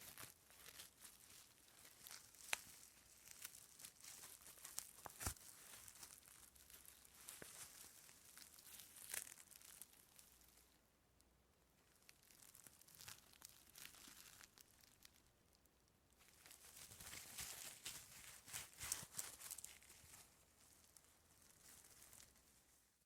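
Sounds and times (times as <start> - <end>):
rope creaking and rustling: 0.0 - 10.8, 12.0 - 15.3, 16.2 - 22.8.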